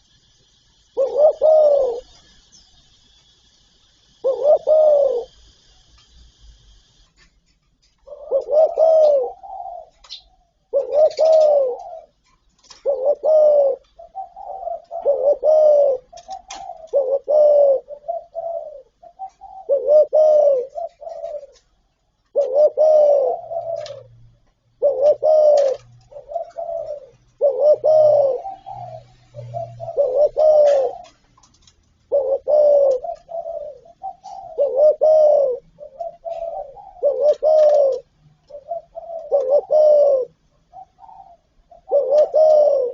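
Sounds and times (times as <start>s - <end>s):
dove cooing: 0.0s - 2.6s, 4.1s - 7.0s, 7.8s - 42.9s.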